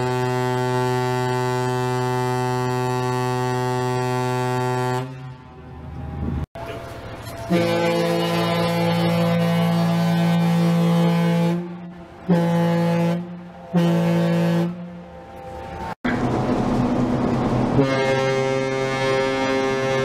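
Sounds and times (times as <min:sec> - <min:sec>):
ferry horn blasts: 0:00.0 - 0:05.5, 0:06.6 - 0:16.0, 0:17.7 - 0:20.0
lower ferry horn blast: 0:00.0 - 0:06.0, 0:06.6 - 0:16.2, 0:17.6 - 0:20.0
outdoor noise: 0:00.0 - 0:20.0.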